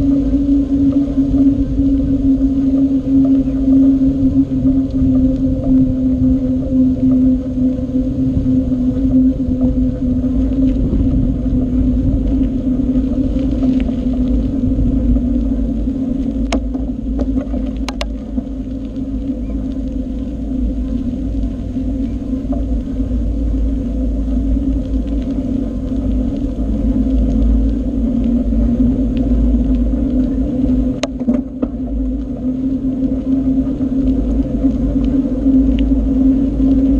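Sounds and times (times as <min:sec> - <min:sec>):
mountain bike riding hum: 0:00.0 - 0:36.9.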